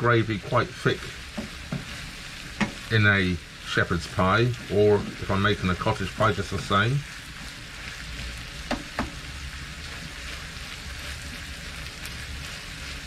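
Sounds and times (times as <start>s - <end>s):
food sizzling in a frying pan: 0.0s - 13.0s
wooden spoon stirring: 0.4s - 2.9s, 4.0s - 13.0s.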